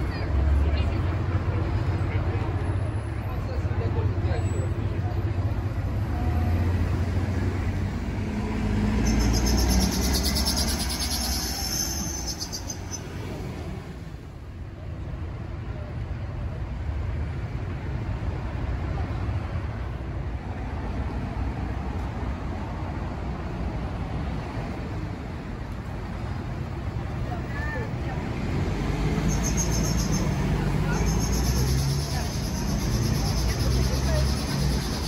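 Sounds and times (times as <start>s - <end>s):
traffic rumble: 0.0s - 35.0s.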